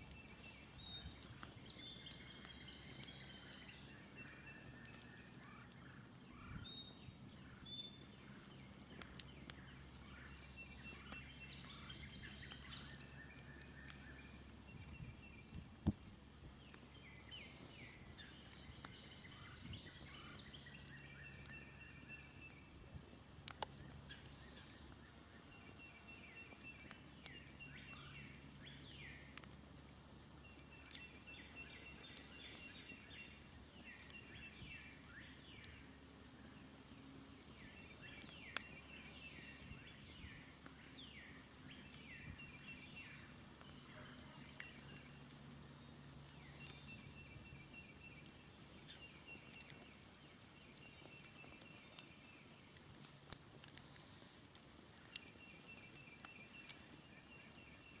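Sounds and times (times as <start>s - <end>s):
campfire pops: 0.0s - 58.0s
faint songbirds chirping: 0.0s - 58.0s.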